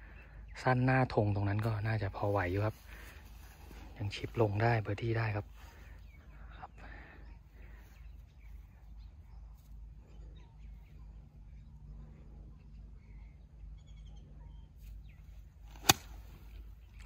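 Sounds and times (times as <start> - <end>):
birds chirping quietly: 0.0 - 17.0
low steady hum: 0.0 - 17.0.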